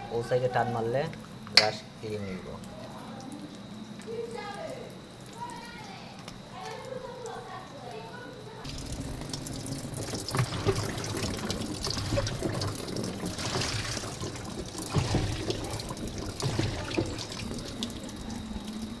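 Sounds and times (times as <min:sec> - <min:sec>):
tap water running and splashing: 0:00.0 - 0:19.0.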